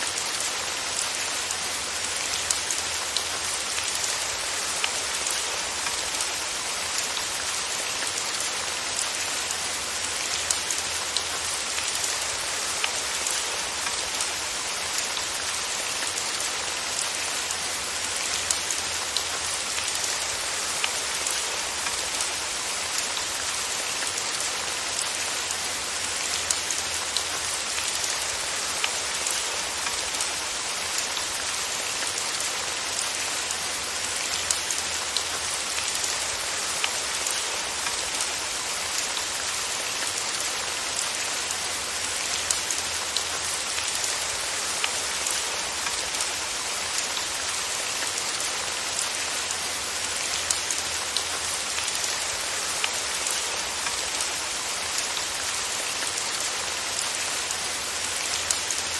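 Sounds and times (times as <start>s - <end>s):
rain falling with even hiss: 0.0s - 58.9s.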